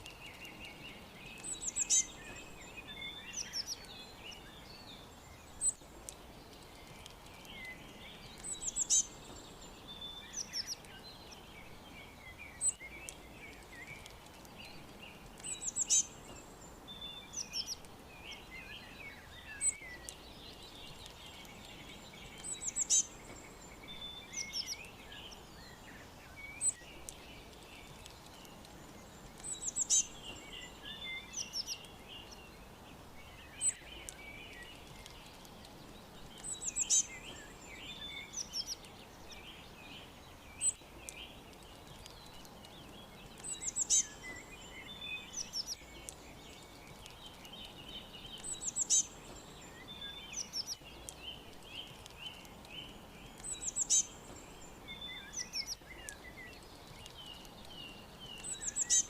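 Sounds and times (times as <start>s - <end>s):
bird singing high song phrase: 0.0s - 59.0s
faint background hiss: 0.0s - 59.0s
soft bird twittering: 0.0s - 59.0s.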